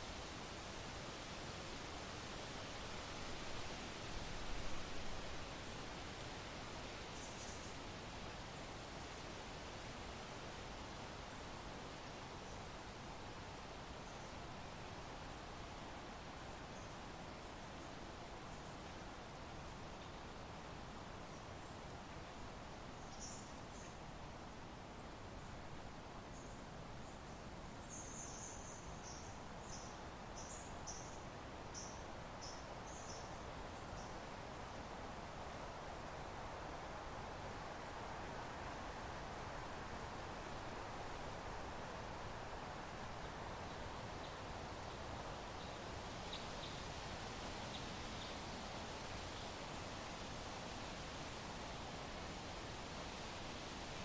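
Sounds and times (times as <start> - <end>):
soft wind: 0.0 - 54.0.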